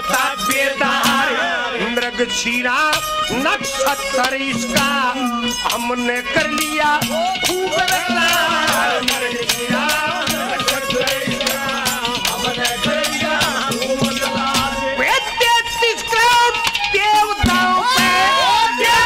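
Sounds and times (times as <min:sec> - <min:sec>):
fast percussion strokes: 0:00.0 - 0:19.0
rattling jingle: 0:00.0 - 0:19.0.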